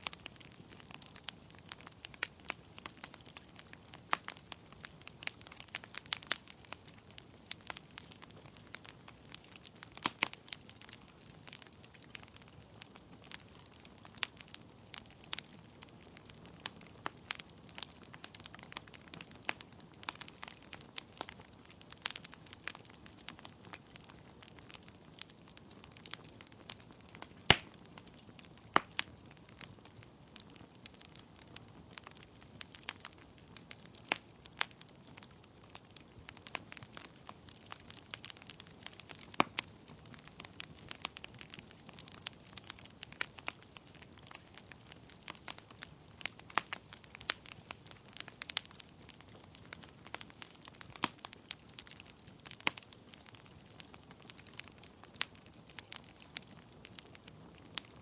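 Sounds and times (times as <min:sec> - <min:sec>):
faint steady hiss: 0:00.0 - 0:54.1
wood fire crackling: 0:00.0 - 0:58.0.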